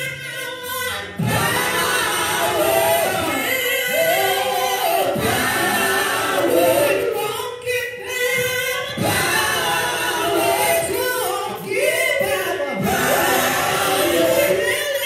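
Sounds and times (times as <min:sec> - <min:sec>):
gospel group singing: 0:00.0 - 0:15.0.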